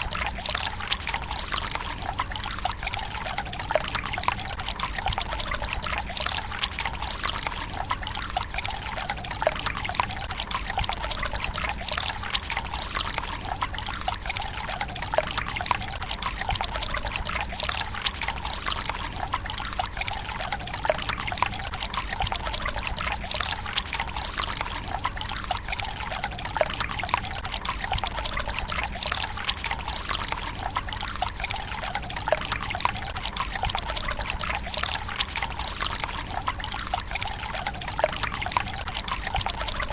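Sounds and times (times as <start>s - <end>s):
water trickling into stone basin: 0.0s - 39.9s.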